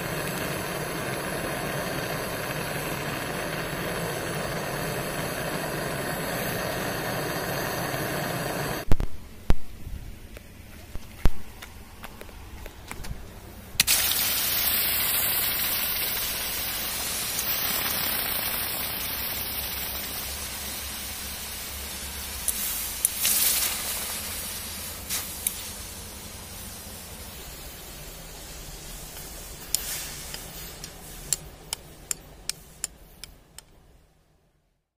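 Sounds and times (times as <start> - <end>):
hot metal sizzling on damp soil: 0.0 - 8.9, 13.8 - 33.7.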